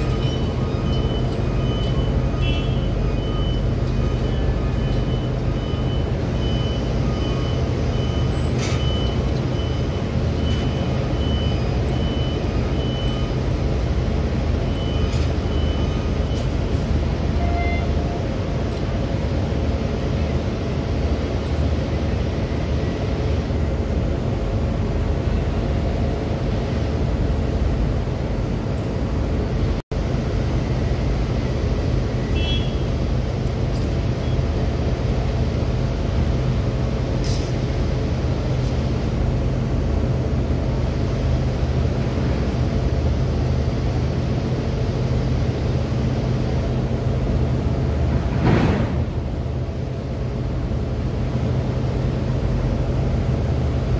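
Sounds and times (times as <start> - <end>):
marine diesel engines droning: 0.0 - 53.9.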